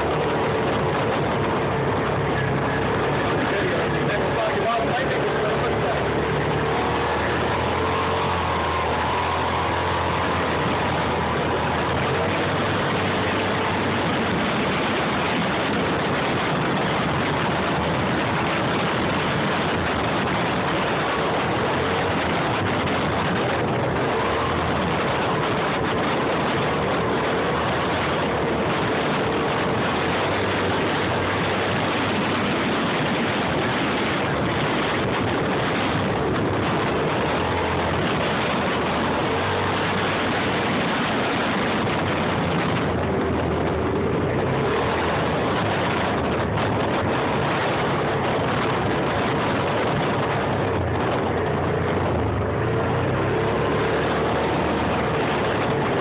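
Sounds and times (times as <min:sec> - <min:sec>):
faint engine hum: 0:00.0 - 0:56.0
off-road vehicle driving noise: 0:00.0 - 0:56.0.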